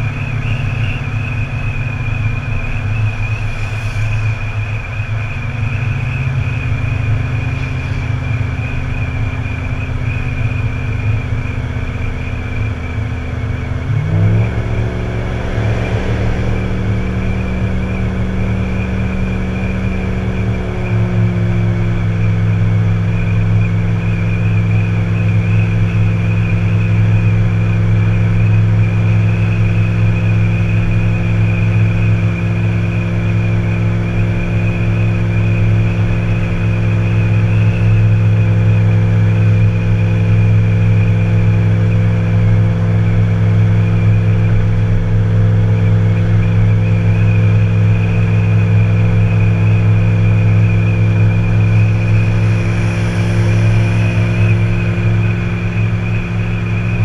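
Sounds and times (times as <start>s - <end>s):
high whine: 0.0s - 57.0s
vehicle engine and road drone: 0.0s - 57.0s.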